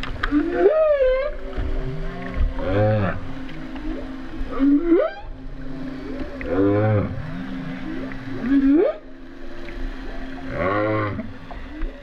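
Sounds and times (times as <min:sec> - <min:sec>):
steady low hum: 0:00.0 - 0:12.0
humpback whale calls: 0:00.2 - 0:09.2, 0:10.2 - 0:11.9.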